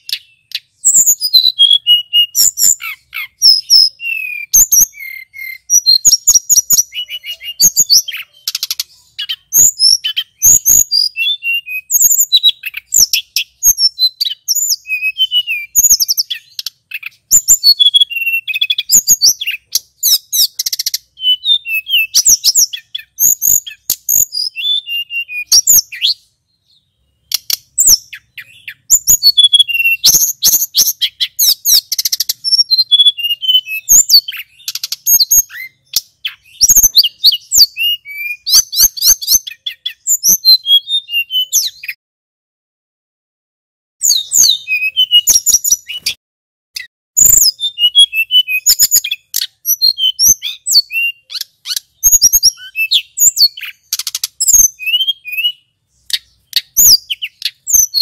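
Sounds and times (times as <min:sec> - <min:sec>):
flycatcher singing: 0:00.0 - 0:42.0, 0:44.0 - 0:46.2, 0:46.8 - 0:58.0.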